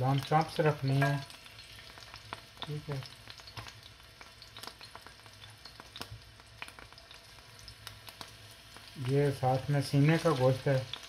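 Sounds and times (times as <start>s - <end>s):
meat sizzling in hot oil: 0.0s - 11.0s
oil crackling and popping: 0.0s - 11.0s.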